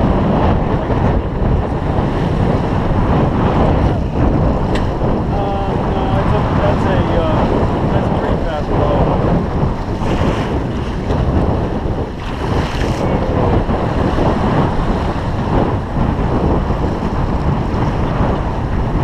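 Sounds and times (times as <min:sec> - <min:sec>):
waves splashing along boat hull: 0:00.0 - 0:19.0
wind buffeting microphone: 0:00.0 - 0:19.0.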